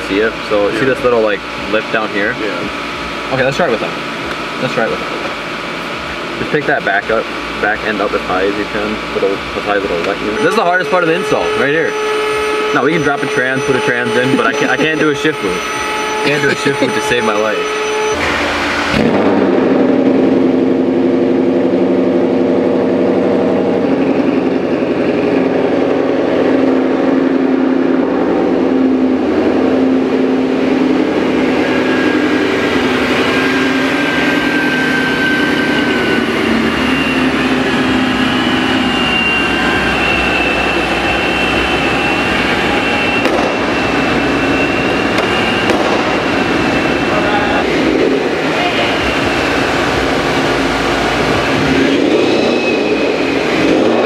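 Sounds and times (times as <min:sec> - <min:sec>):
car engine idling: 0:00.0 - 0:54.0
faint high whine: 0:00.0 - 0:54.0.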